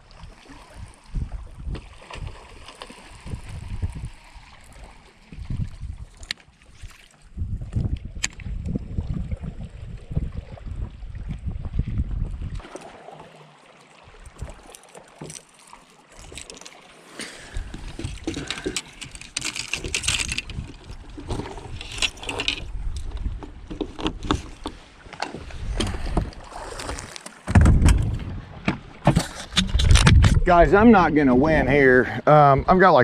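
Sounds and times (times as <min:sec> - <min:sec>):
wind rumbling on microphone: 0:00.0 - 0:12.7, 0:17.4 - 0:32.8.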